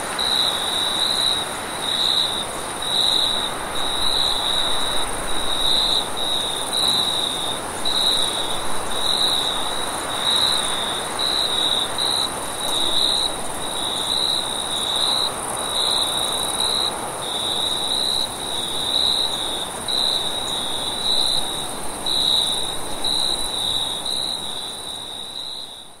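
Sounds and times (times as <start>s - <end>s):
continuous high insect trill: 0.0s - 26.0s
crickets chirping in pulses: 0.1s - 26.0s.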